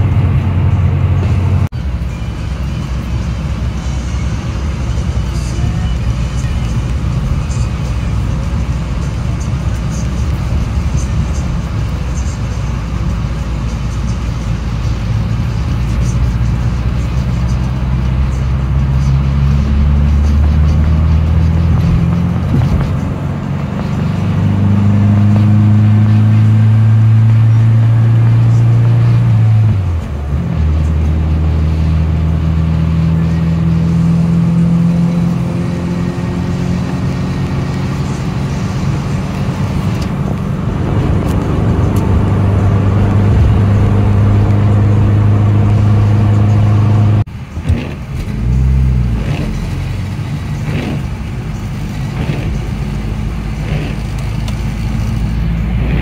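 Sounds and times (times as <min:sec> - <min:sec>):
car engine droning: 0:00.0 - 0:56.0.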